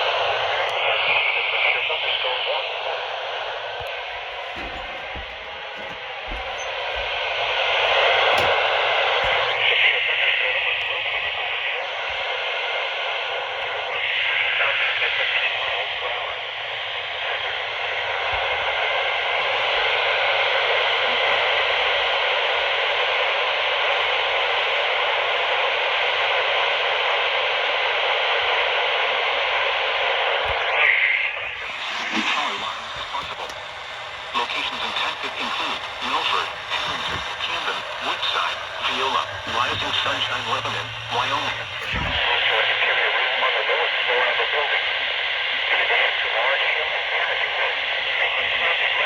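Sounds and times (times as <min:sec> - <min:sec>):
radio static hiss: 0:00.0 - 0:49.0.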